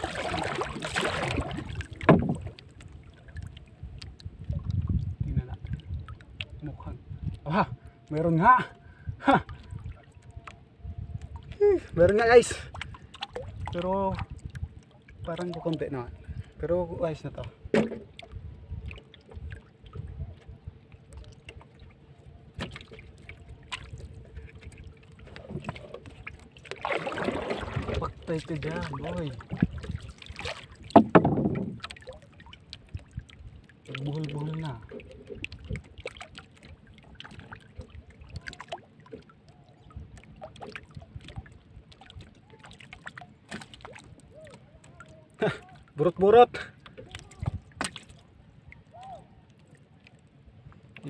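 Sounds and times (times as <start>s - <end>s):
light knocks and splashes: 0.0s - 6.9s, 11.2s - 51.0s
water lapping against boat hull: 0.0s - 51.0s.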